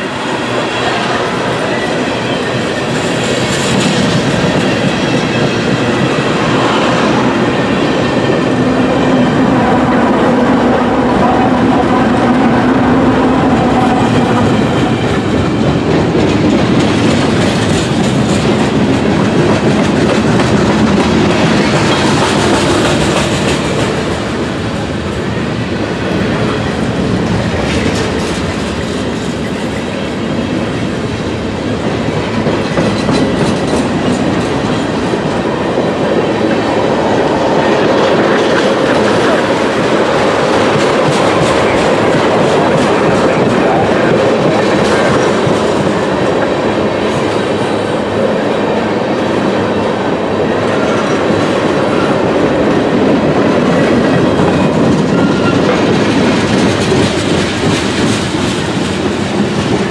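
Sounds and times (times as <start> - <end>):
train wheels clacking over rail joints: 0.0 - 9.6, 11.3 - 25.1, 26.1 - 48.2, 50.6 - 59.9.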